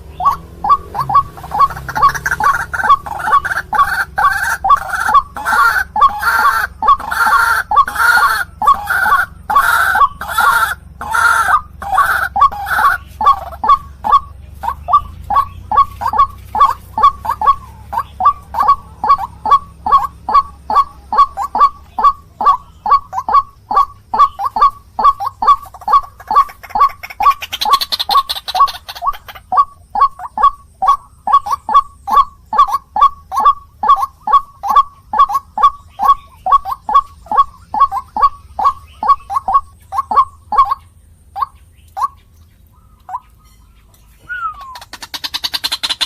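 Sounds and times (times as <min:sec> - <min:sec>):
waterhen calling: 0:00.0 - 0:46.0.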